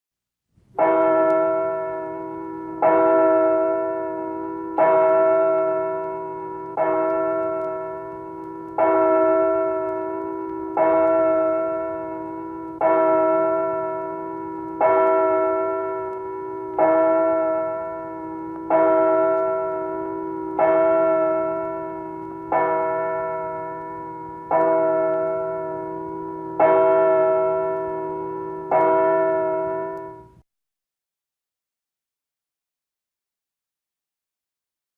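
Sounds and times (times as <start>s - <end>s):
church bell tolling: 0.8s - 30.4s.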